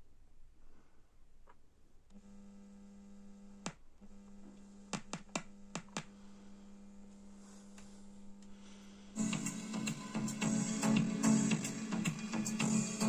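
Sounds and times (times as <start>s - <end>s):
amplifier buzzing hum: 2.0s - 13.0s.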